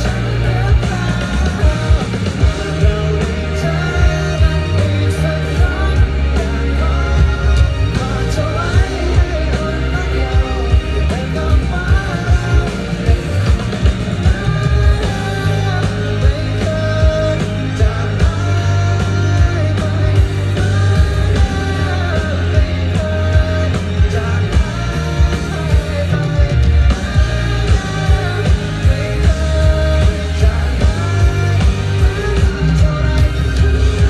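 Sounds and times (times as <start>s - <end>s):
drums beating: 0.0s - 34.0s
person singing: 0.0s - 34.0s
rock band music: 0.0s - 34.0s.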